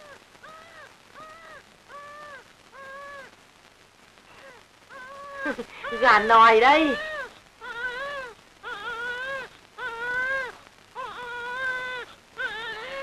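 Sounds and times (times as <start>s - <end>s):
baby crying: 0.0s - 3.3s, 4.4s - 13.0s.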